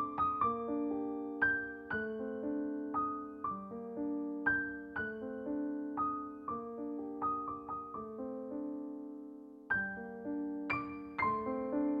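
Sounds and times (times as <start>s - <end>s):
slow piano notes: 0.0s - 12.0s.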